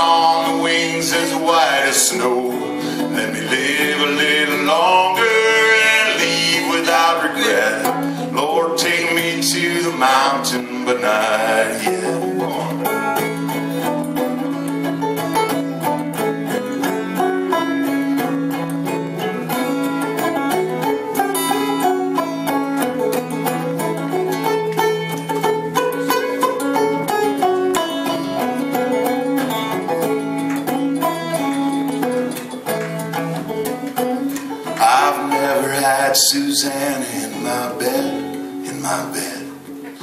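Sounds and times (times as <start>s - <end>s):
acoustic guitar strumming: 0.0s - 40.0s
picked banjo notes: 0.0s - 40.0s
plucked double bass: 0.0s - 40.0s.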